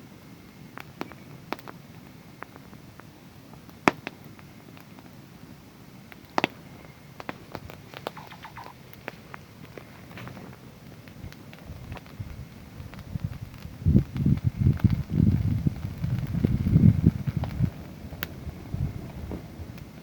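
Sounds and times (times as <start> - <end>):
low rumble of burning: 0.0 - 20.0
wood fire crackling: 0.0 - 20.0.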